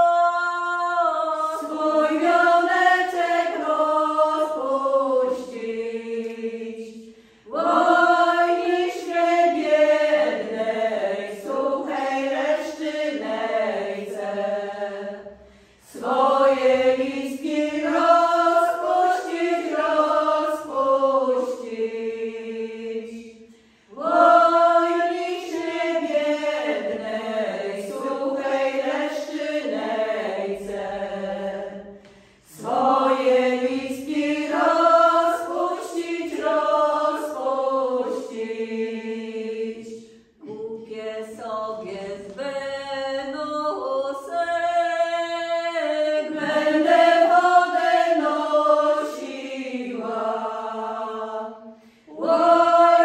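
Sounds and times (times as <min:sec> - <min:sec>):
women singing a cappella: 0:00.0 - 0:53.0.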